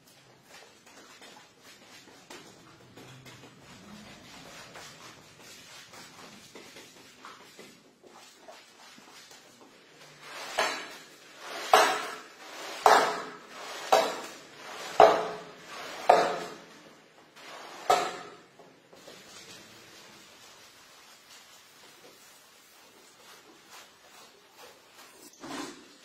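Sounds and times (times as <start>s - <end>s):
squeegee pushing water through rug: 0.1s - 26.0s.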